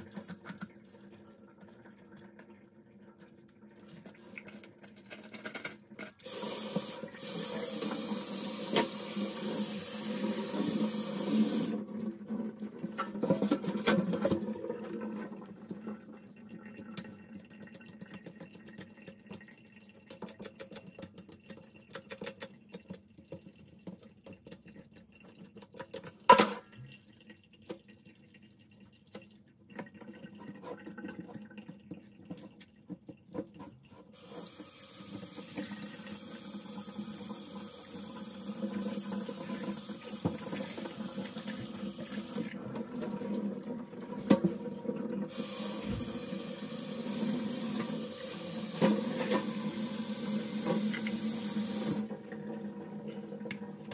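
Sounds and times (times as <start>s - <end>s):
water running into sink: 0.0s - 53.9s.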